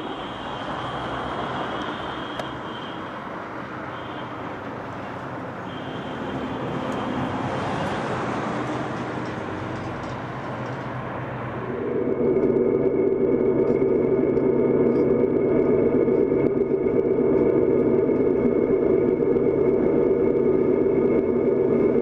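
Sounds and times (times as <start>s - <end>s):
faint high whine: 0.0s - 10.2s, 11.3s - 22.0s
train rumbling: 0.0s - 22.0s.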